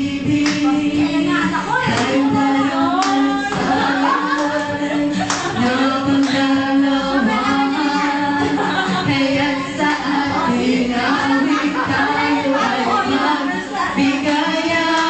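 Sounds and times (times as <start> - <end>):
karaoke backing music: 0.0 - 15.0.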